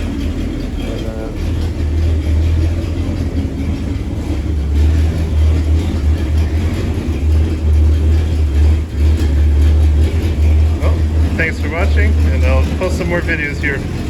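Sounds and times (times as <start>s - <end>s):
engine exhaust rumbling: 0.0s - 14.0s.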